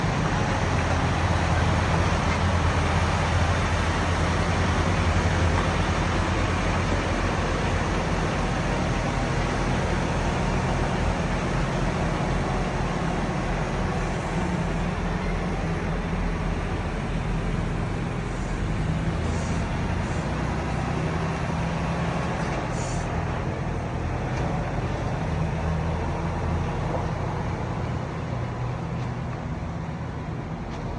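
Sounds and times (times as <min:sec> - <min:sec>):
truck engine and road drone: 0:00.0 - 0:30.9.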